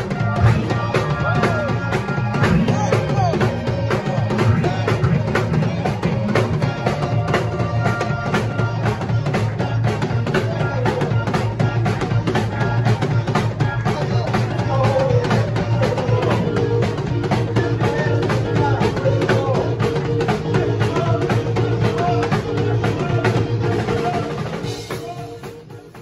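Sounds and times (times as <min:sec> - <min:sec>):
drum kit with cymbals: 0:00.0 - 0:26.0
electronic keyboard chords and bass: 0:00.0 - 0:26.0.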